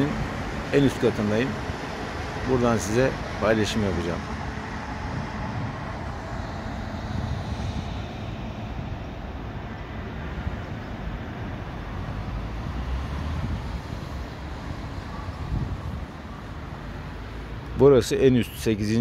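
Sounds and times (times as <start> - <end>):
wind rumbling on microphone: 0.0 - 17.8
highway traffic passing: 0.0 - 19.0.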